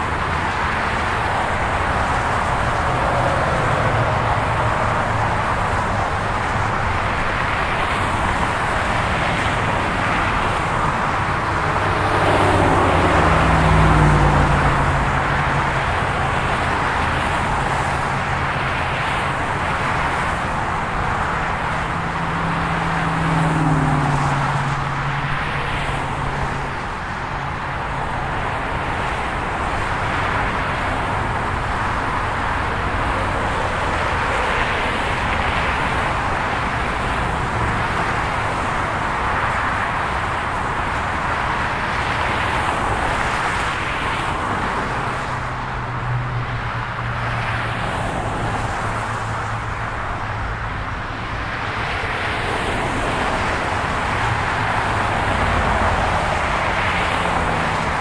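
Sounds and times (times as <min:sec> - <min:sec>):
freeway traffic rushing: 0:00.0 - 0:58.0
loud vehicle passing: 0:00.0 - 0:58.0.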